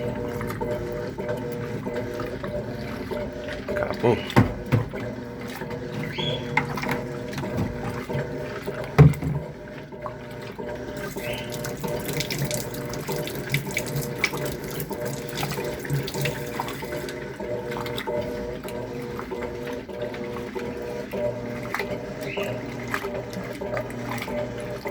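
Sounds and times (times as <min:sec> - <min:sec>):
washing machine motor hum: 0:00.0 - 0:24.9
water sloshing in drum: 0:00.0 - 0:24.9.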